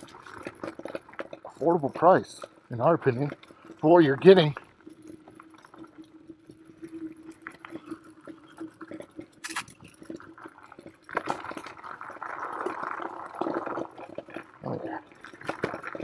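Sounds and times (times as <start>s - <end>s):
tyres rolling over dirt: 0.0s - 16.0s.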